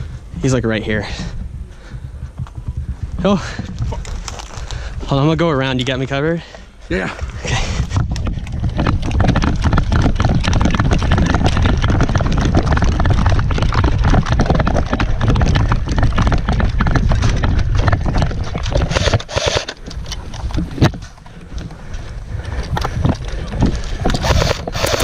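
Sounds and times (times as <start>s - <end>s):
running footsteps through brush: 1.0s - 25.0s.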